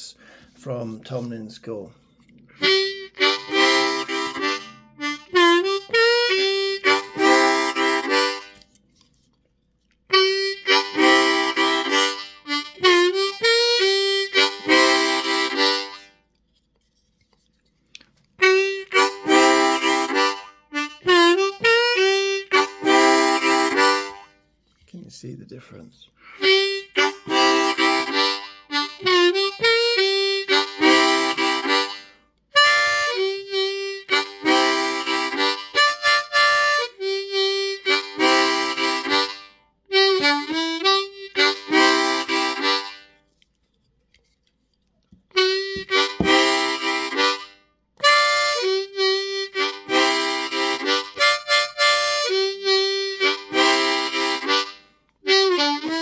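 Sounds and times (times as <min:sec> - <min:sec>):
harmonica blues riffs: 0:02.5 - 0:08.7, 0:10.1 - 0:16.2, 0:18.4 - 0:24.5, 0:26.2 - 0:43.4, 0:45.3 - 0:56.0.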